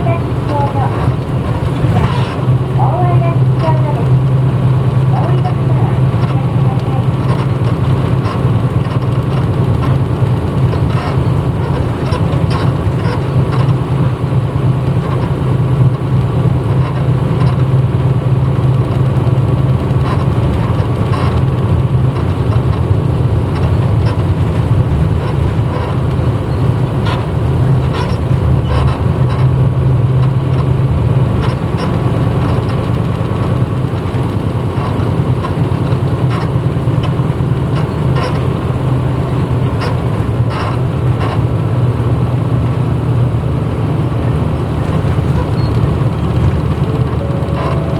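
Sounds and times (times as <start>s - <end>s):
bus engine drone: 0.0s - 47.9s.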